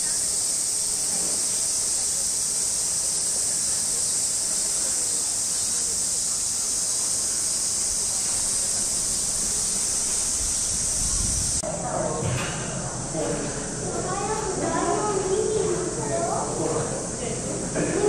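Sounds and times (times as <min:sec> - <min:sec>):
cicada chorus: 0:00.0 - 0:12.3, 0:13.9 - 0:18.0.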